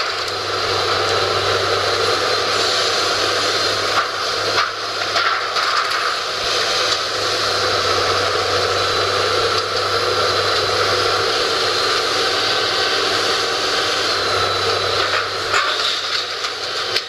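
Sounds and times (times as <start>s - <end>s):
excavator engine and hydraulics drone: 0.0s - 17.0s.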